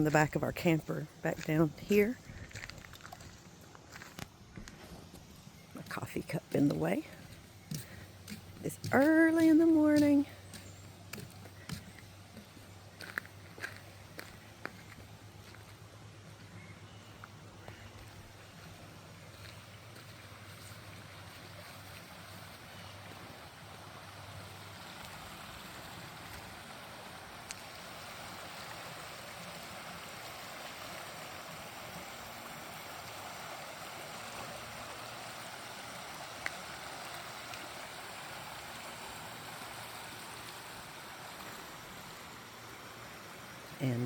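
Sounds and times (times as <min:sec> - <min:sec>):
river water flowing: 0:05.1 - 0:44.0.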